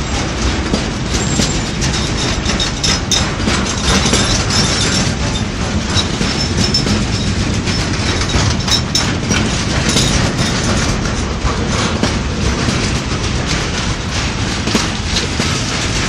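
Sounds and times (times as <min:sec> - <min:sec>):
clickety-clack over rail joints: 0:00.0 - 0:16.0
freight wagons rumbling on rails: 0:00.0 - 0:16.0.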